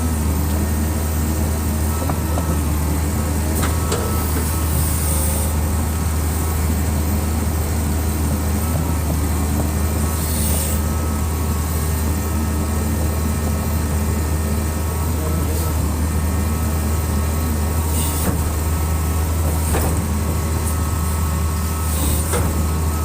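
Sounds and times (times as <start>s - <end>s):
excavator diesel engine drone: 0.0s - 23.0s.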